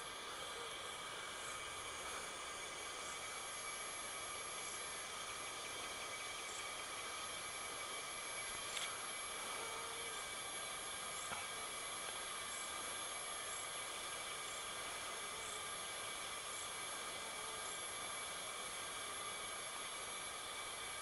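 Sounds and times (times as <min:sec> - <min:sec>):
faint outdoor background hiss: 0:00.0 - 0:21.0.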